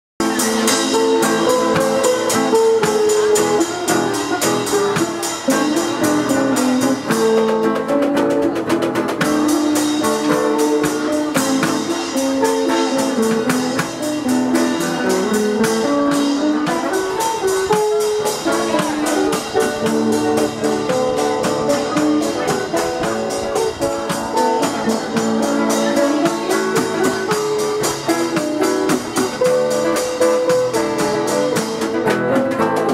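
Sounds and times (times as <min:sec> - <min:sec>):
drum beat and cymbal: 0:00.2 - 0:32.9
electric and acoustic guitars: 0:00.2 - 0:32.9.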